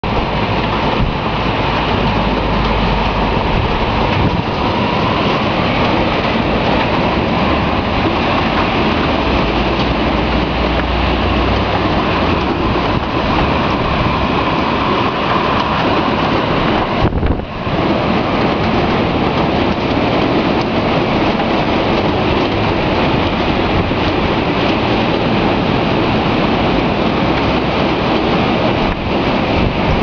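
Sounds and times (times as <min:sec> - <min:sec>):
storm wind roaring: 0:00.0 - 0:30.0
wind gusts buffeting microphone: 0:00.0 - 0:30.0.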